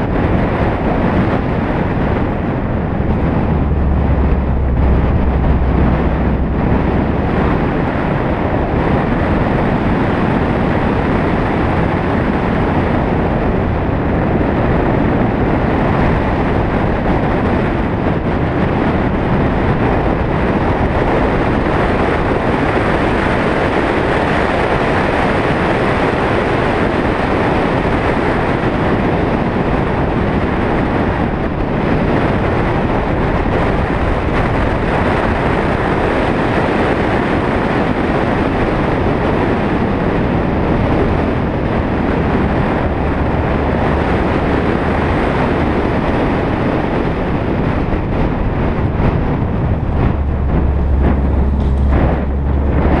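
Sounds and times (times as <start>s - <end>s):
deep low rumble: 0.0s - 24.7s, 31.4s - 53.0s
vehicle road noise: 0.0s - 53.0s
wind rush: 0.0s - 53.0s.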